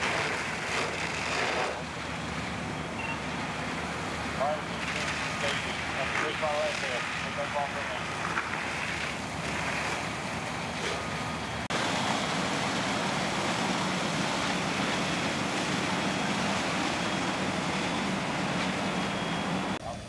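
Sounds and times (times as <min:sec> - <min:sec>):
water streams spraying: 0:00.0 - 0:19.8
fire engine pumps droning: 0:00.0 - 0:20.0.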